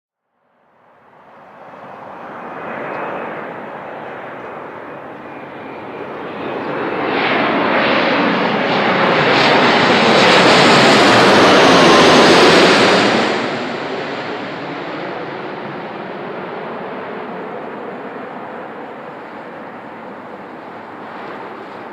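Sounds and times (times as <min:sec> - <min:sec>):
jet engines of passing airliner: 0:00.7 - 0:21.9.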